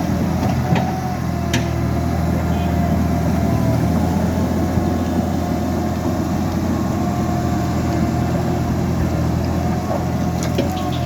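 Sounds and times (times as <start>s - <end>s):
diesel engine low drone: 0.0s - 11.0s.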